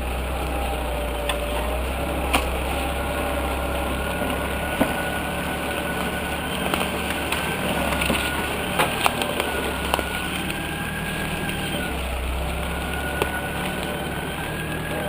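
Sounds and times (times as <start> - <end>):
vehicle engine running: 0.0 - 15.0
sharp knocks and cracks: 1.2 - 3.0, 4.3 - 15.0.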